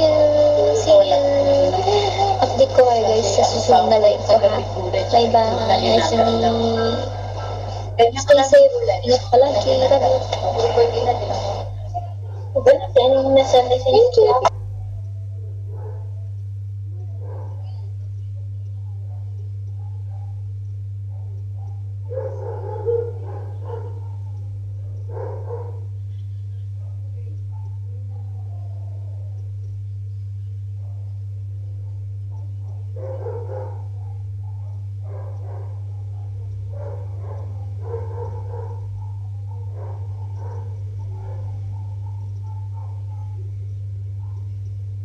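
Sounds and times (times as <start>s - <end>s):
low steady hum: 0.0s - 45.0s
muffled intermittent sounds: 0.0s - 45.0s.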